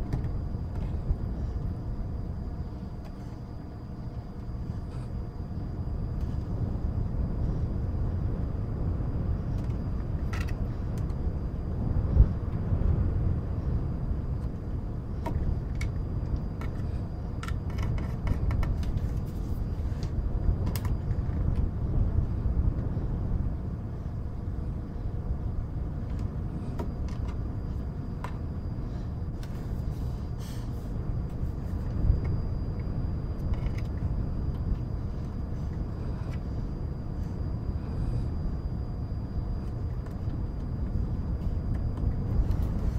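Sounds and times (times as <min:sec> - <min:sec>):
wind noise: 0:00.0 - 0:42.9.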